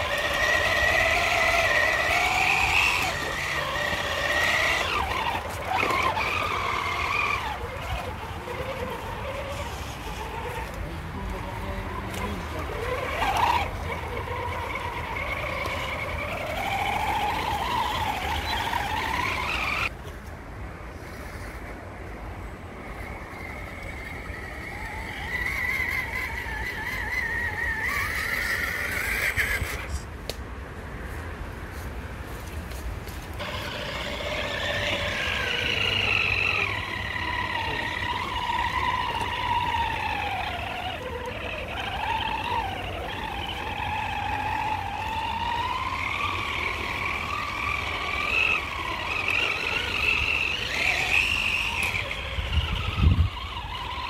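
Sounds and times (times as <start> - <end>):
electric motor and gears whining: 0.0 - 20.0, 21.0 - 30.1, 32.3 - 54.0.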